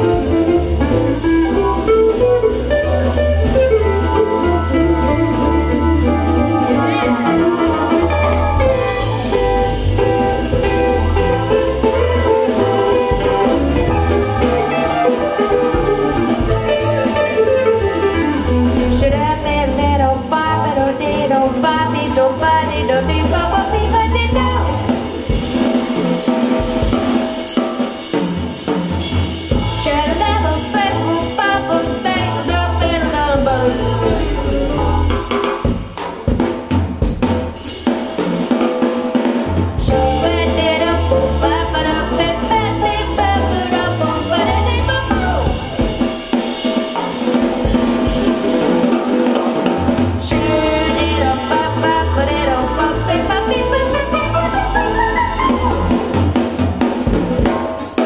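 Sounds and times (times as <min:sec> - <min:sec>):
music with drum kit: 0:00.0 - 0:58.0.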